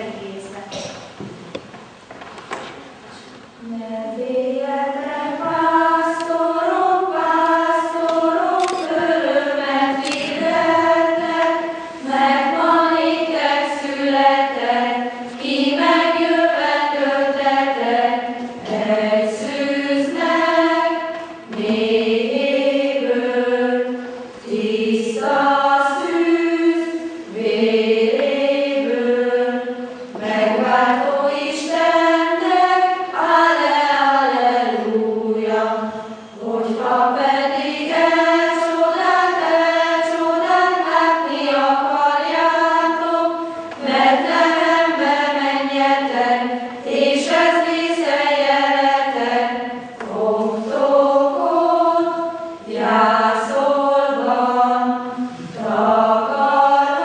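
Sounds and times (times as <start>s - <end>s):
group singing together: 3.6s - 57.0s.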